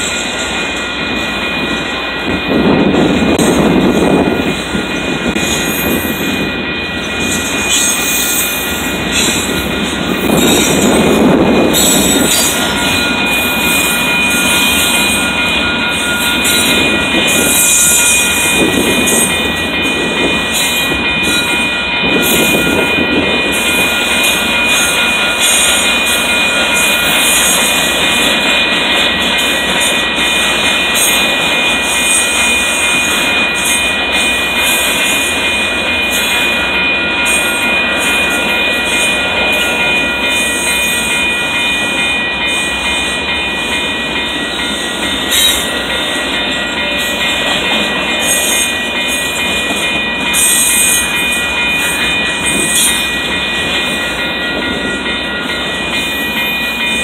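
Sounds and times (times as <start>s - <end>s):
freight train rolling past: 0.0s - 57.0s
steel wheels rumbling on rails: 0.0s - 57.0s.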